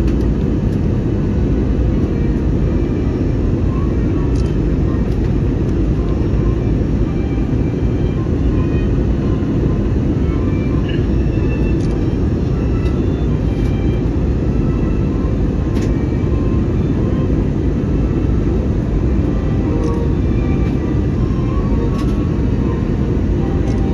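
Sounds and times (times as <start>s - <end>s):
airliner cabin engine rumble: 0.0s - 23.9s.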